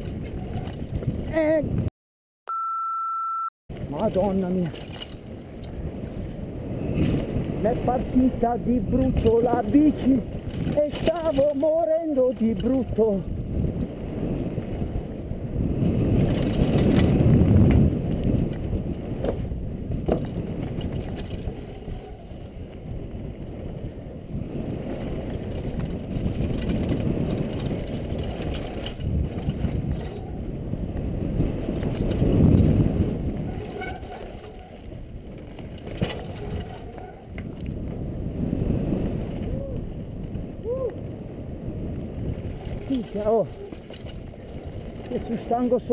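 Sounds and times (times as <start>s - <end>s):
bike rattling: 0.0s - 1.3s, 3.8s - 45.9s.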